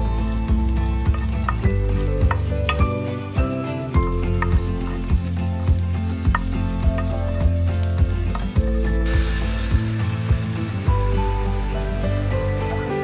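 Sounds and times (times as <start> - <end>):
background music with beat: 0.0 - 13.0
garlic sizzling in a frying pan: 0.0 - 13.0.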